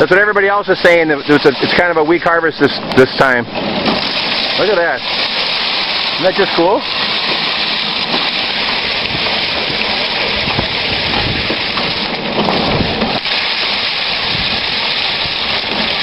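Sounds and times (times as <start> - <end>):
rice thresher running: 0.0 - 16.0
grain pelting housing: 0.7 - 16.0.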